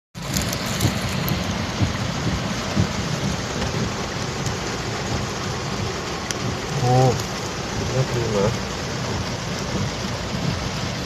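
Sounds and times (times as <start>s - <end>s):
heavy rain falling: 0.2s - 11.0s
low rumbling thumps: 0.2s - 11.0s.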